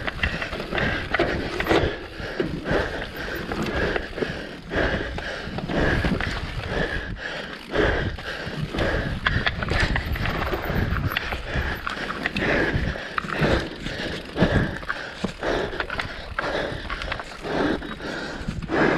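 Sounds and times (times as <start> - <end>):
bike clattering over bumps: 0.0 - 18.9
bike tyres on loose dirt: 0.0 - 18.9
wind rumbling on microphone: 0.0 - 18.9.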